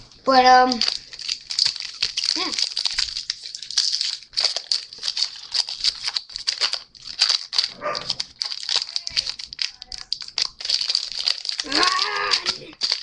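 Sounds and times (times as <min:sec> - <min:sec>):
foil wrapper crinkling: 0:00.1 - 0:13.0.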